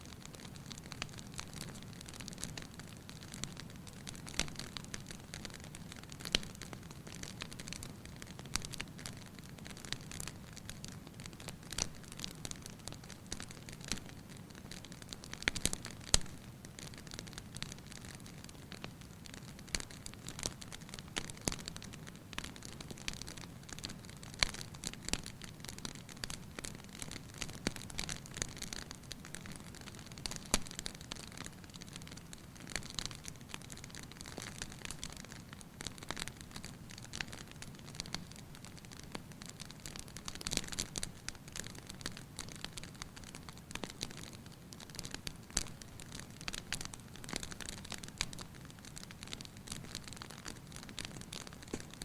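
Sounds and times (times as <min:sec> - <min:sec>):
fire pops and snaps: 0:00.1 - 0:52.0
wood fire crackling: 0:00.1 - 0:52.0.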